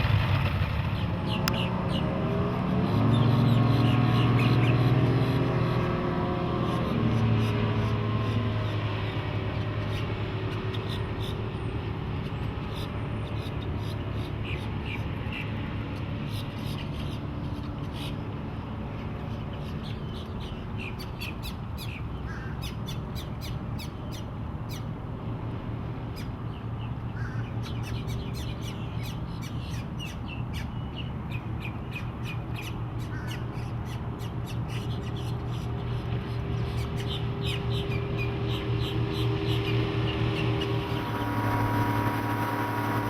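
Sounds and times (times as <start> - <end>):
outboard motors humming: 0.0 - 43.0.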